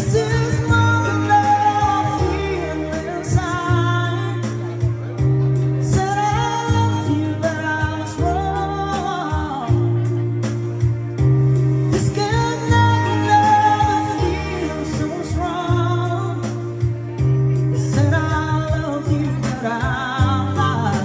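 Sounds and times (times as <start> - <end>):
backing track with bass: 0.0 - 21.0
man singing karaoke: 0.0 - 21.0.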